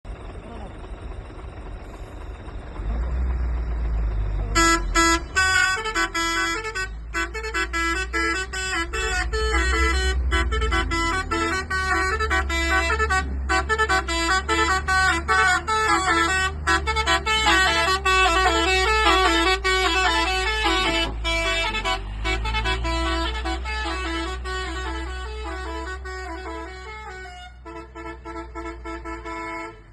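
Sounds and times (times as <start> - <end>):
musical air horn melody: 4.6 - 29.8.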